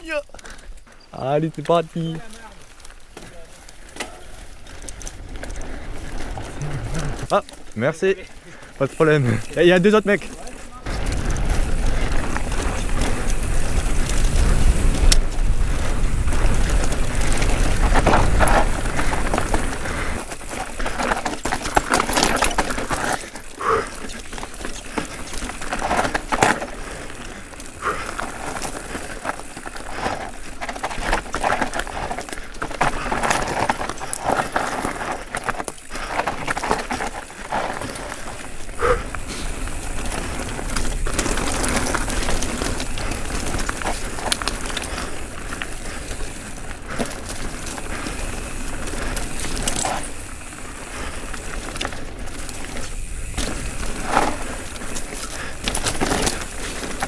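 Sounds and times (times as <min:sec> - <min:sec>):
bike tyres rolling over gravel: 0:00.0 - 0:57.0
bike knocks and rattles: 0:10.0 - 0:57.0.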